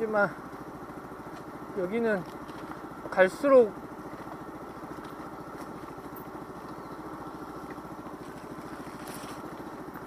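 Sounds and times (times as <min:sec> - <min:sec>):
scooter engine puttering: 0:00.0 - 0:10.0.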